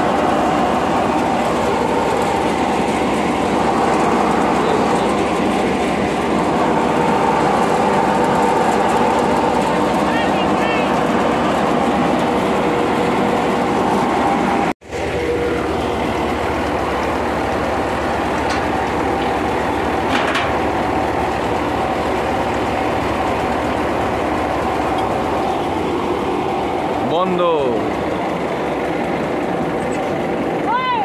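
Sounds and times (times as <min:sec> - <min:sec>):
thresher mechanical hum: 0:00.0 - 0:31.0
tractor engine: 0:00.0 - 0:31.0.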